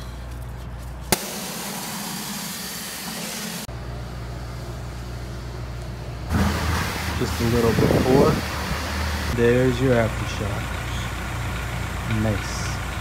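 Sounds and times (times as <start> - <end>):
low mechanical hum: 0.0 - 11.2.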